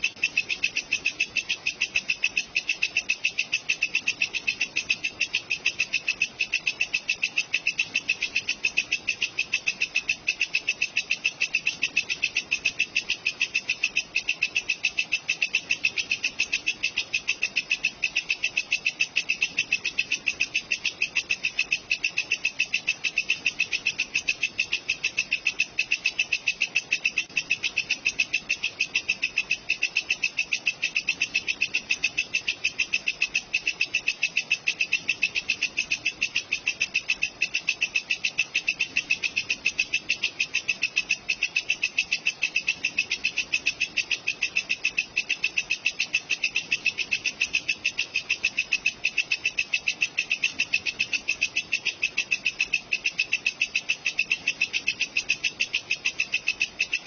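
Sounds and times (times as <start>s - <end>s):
insect shrill chirps: 0.0s - 57.0s.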